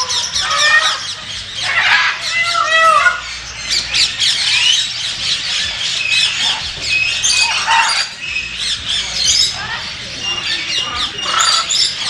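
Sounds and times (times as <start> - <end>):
birds squawking and chirping: 0.0 - 12.0.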